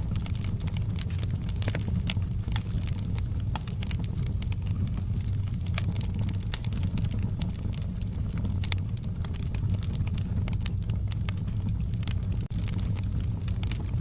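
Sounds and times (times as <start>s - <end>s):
fire crackling and popping: 0.0s - 14.0s
fire roaring: 0.0s - 14.0s.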